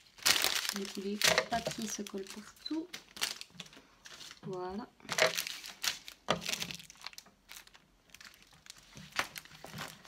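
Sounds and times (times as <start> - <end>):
plastic wrapping rustling: 0.0 - 10.0.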